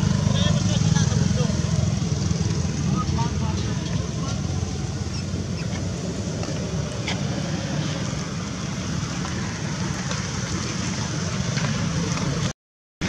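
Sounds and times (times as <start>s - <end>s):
low outdoor rumble: 0.0s - 12.5s.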